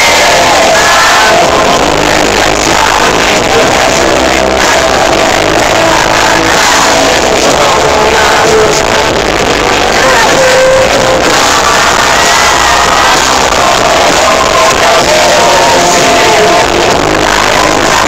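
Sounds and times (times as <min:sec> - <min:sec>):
electric guitar: 0:00.0 - 0:18.0
live rock band playing: 0:00.0 - 0:18.0.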